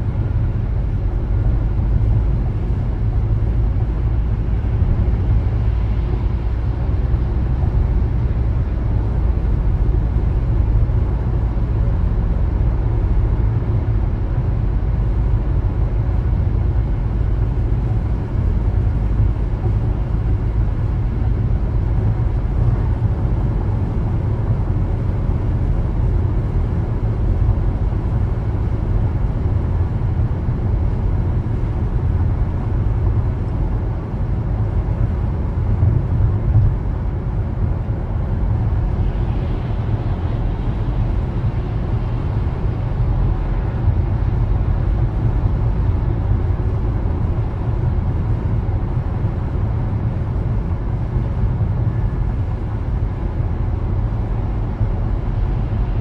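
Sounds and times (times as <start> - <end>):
car driving: 0.0 - 56.0.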